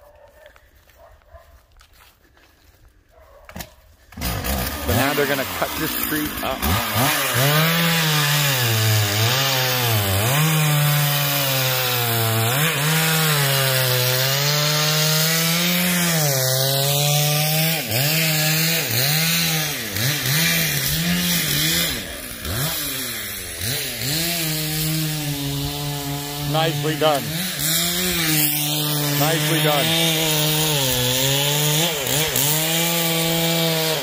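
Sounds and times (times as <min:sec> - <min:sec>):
chainsaw cutting wood: 0:03.5 - 0:34.0.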